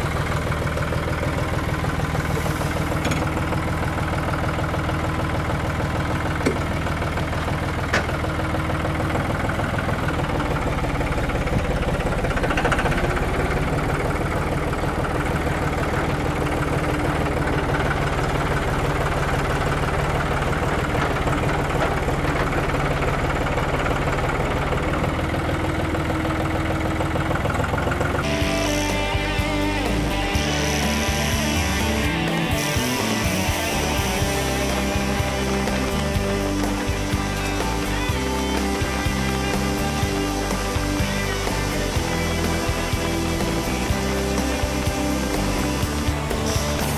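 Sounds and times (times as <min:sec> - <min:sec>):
tractor diesel engine idling: 0:00.0 - 0:46.9.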